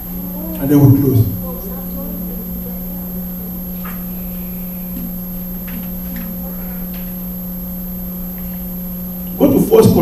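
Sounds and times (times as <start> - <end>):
electrical hum and buzz: 0.0 - 10.0.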